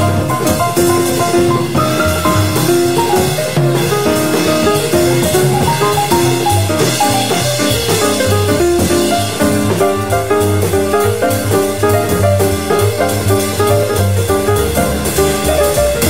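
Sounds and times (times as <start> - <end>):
jazz music: 0.0 - 16.0.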